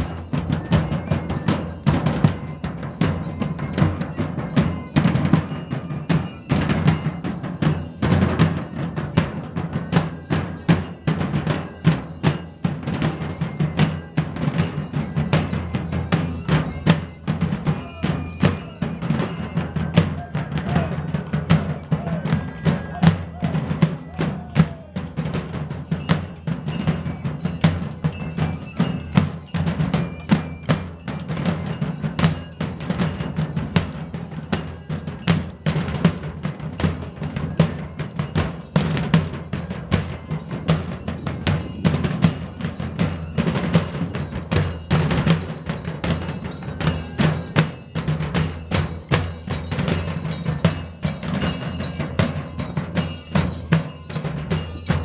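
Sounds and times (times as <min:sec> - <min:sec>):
large drums playing steady rhythm: 0:00.0 - 0:55.0.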